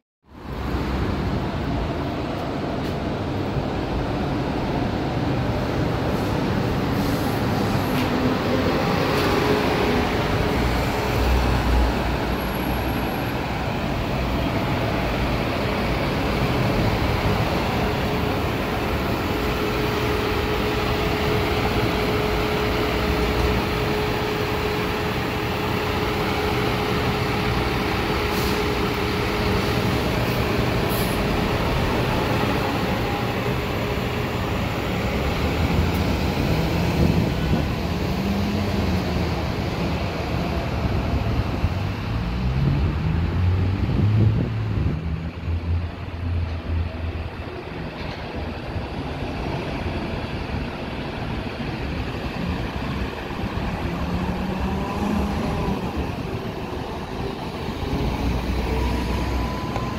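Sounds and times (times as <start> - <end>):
bus passing: 0.3 - 59.9
diesel bus idling: 0.4 - 42.2, 44.7 - 59.9.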